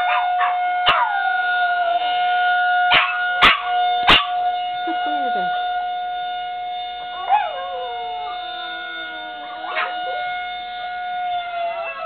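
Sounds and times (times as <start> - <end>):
dogs howling: 0.0 - 5.7, 7.0 - 12.0
warning siren steady tone: 0.0 - 12.0.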